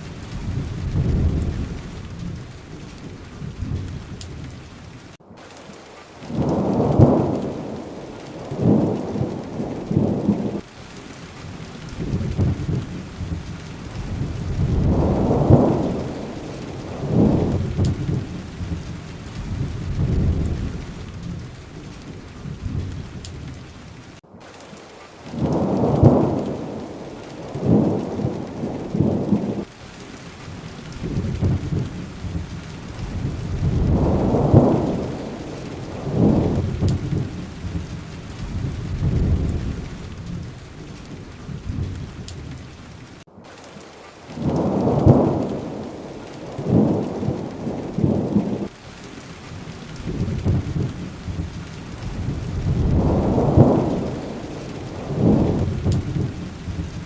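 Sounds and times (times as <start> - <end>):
rolling thunder rumbles: 0.0 - 5.2, 5.8 - 24.2, 25.2 - 43.3, 44.3 - 57.0
steady rain hiss: 0.0 - 57.0.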